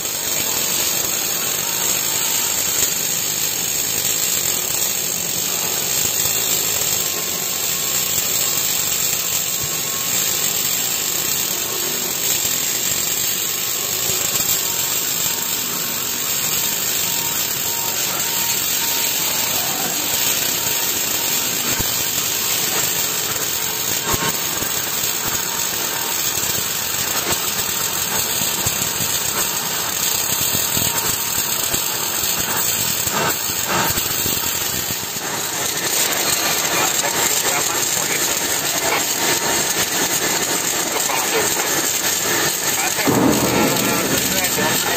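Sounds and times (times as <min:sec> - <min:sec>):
continuous machine noise: 0:00.0 - 0:44.9
welding arc sizzling: 0:00.0 - 0:44.9.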